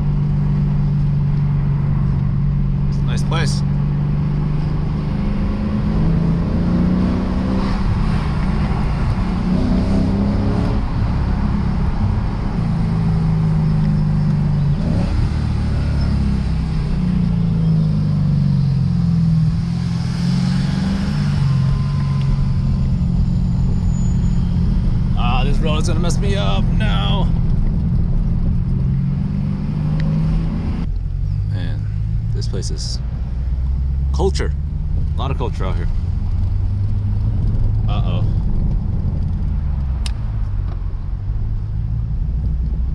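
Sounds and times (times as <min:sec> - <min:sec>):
car engine running: 0:00.0 - 0:42.9
low road rumble: 0:00.0 - 0:42.9.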